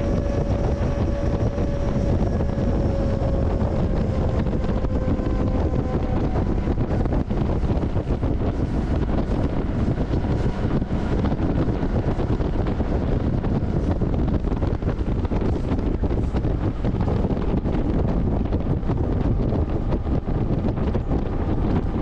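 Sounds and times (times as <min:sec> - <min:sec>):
freight train running rumble: 0:00.0 - 0:22.0
wind buffeting microphone: 0:00.0 - 0:22.0.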